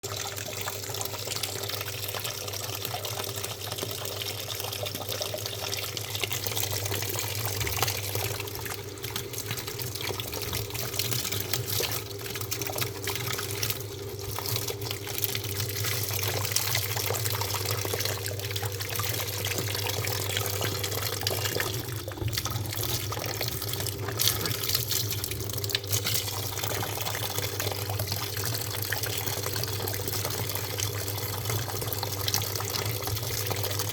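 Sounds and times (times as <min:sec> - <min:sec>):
water running into washing machine: 0:00.0 - 0:33.9.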